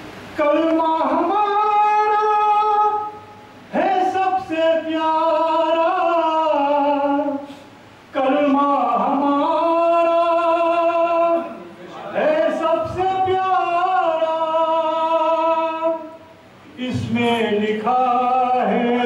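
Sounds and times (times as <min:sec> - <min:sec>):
man singing unaccompanied: 0:00.3 - 0:19.0.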